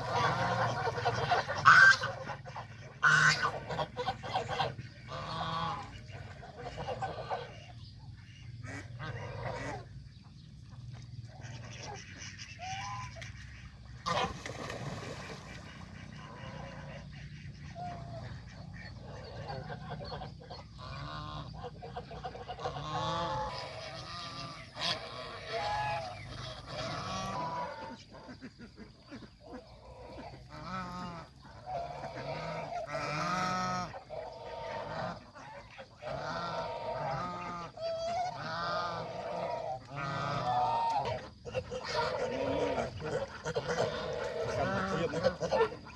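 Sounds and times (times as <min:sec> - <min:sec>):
geese honking: 0:00.0 - 0:09.9, 0:11.5 - 0:28.7, 0:29.6 - 0:45.9.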